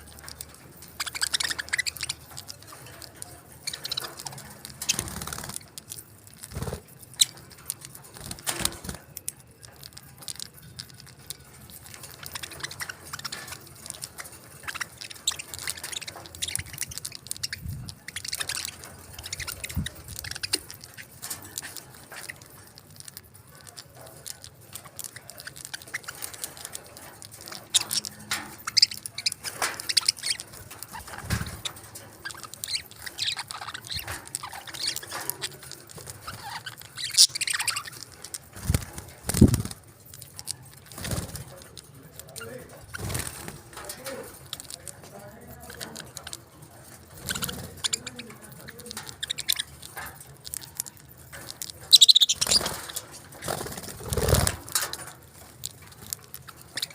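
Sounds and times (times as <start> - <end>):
parakeet chirps: 0.0 - 9.0, 9.6 - 41.4, 47.1 - 55.1, 55.7 - 56.9
parakeets pecking food: 0.0 - 56.9.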